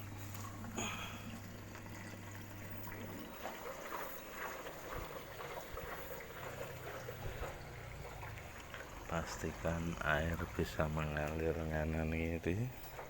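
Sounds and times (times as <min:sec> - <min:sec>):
steady low hum: 0:00.0 - 0:13.0
water trickling: 0:00.0 - 0:13.0.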